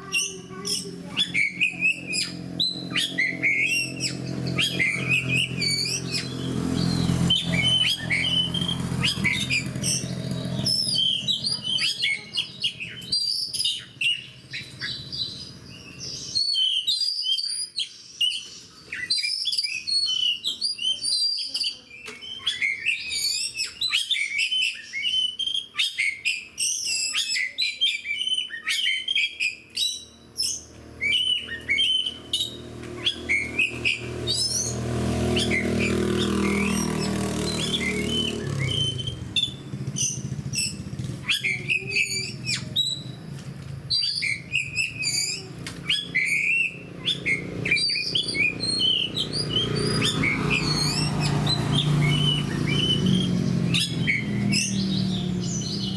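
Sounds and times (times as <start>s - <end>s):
bird singing whistled phrases: 0.0s - 43.2s, 43.9s - 55.9s
other songbirds: 0.0s - 55.9s.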